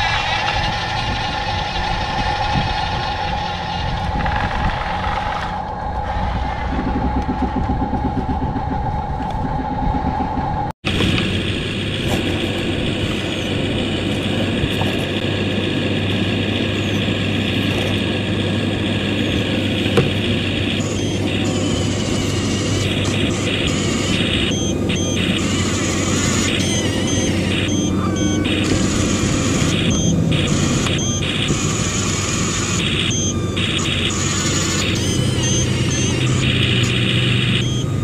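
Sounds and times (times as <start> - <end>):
toy bulldozer motor whining: 0.0 - 7.3, 11.9 - 38.0.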